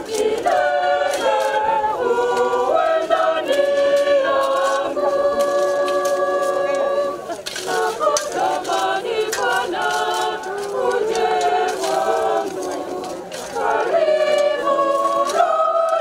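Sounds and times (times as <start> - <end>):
choir singing unaccompanied: 0.0 - 16.0.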